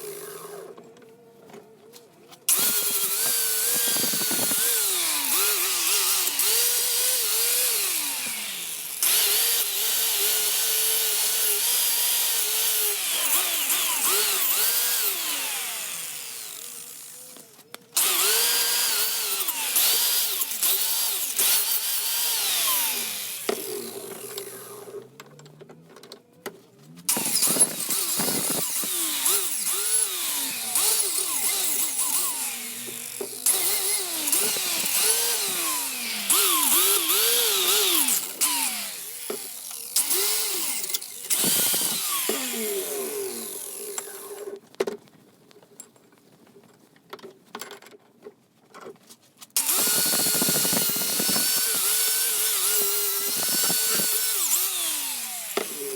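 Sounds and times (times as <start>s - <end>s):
power tool motor: 0.0s - 0.8s, 2.5s - 25.1s, 27.1s - 44.6s, 49.6s - 55.9s.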